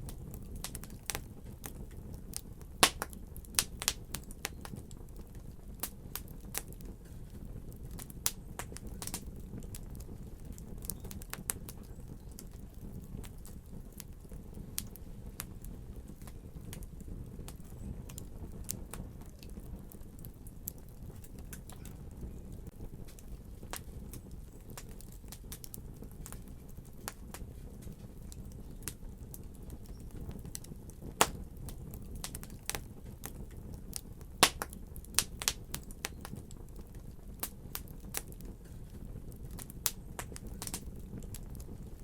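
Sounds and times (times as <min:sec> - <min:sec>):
low rumble of burning: 0:00.0 - 0:42.0
wood fire crackling and popping: 0:00.0 - 0:42.0.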